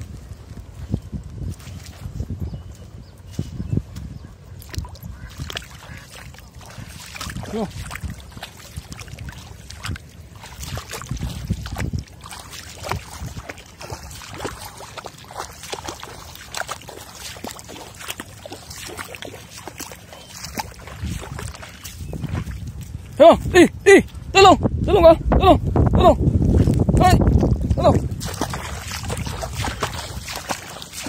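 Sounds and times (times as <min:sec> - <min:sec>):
splashing in shallow water: 0:00.0 - 0:24.5, 0:26.3 - 0:31.0.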